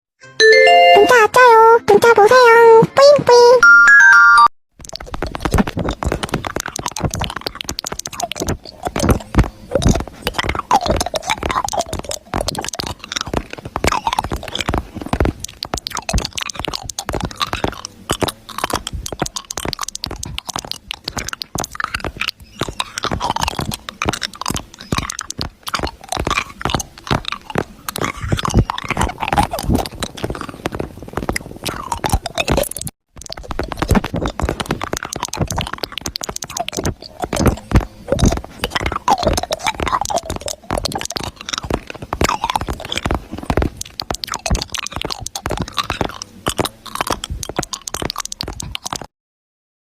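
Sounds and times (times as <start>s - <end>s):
slime squished by hand: 4.8s - 49.1s.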